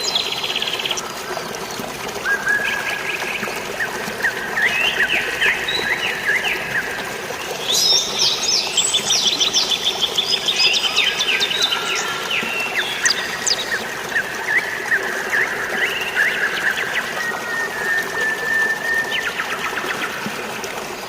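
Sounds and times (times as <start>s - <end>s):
flowing water: 0.0s - 21.0s.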